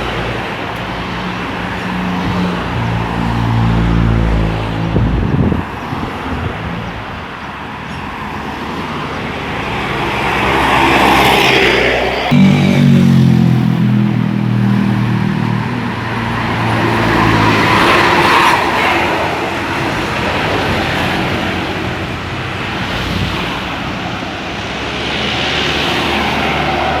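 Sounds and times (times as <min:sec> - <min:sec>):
heavy vehicle engine drone: 0:00.0 - 0:27.0
vehicles passing: 0:00.0 - 0:27.0.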